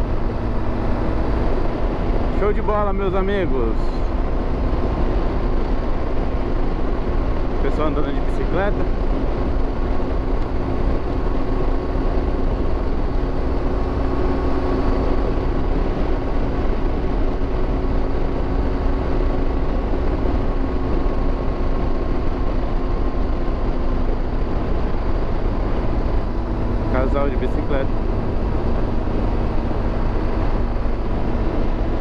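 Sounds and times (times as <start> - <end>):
motorcycle engine hum: 0.0 - 32.0
wind noise: 0.0 - 32.0.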